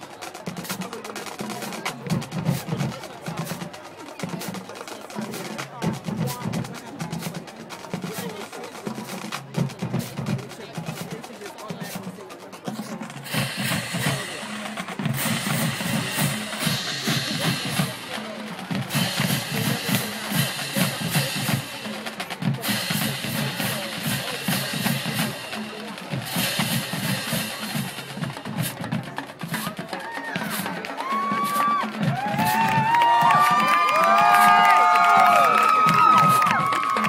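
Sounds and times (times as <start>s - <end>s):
snare drum rolls: 0.0s - 37.0s.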